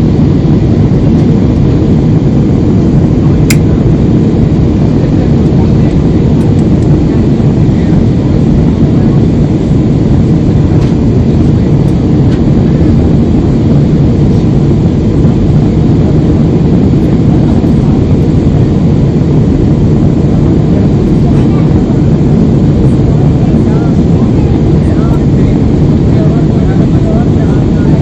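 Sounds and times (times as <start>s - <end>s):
jet cabin engine and airflow noise: 0.0s - 28.0s.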